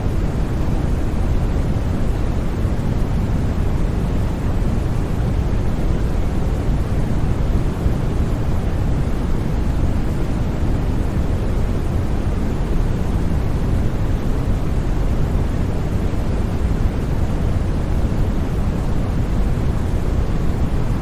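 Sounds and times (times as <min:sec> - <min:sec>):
deep white noise: 0:00.0 - 0:21.0.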